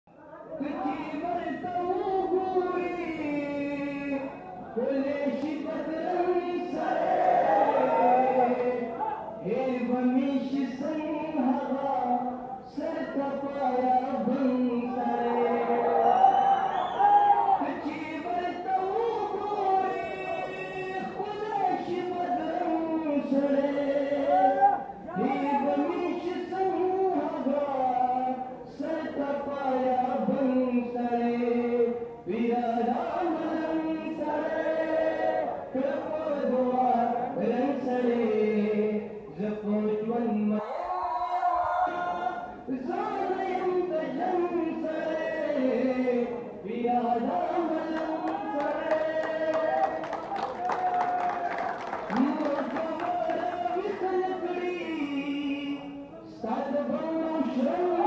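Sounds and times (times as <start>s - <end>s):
man singing unaccompanied: 0.6s - 16.0s, 17.6s - 40.6s, 42.4s - 50.2s, 52.0s - 58.0s.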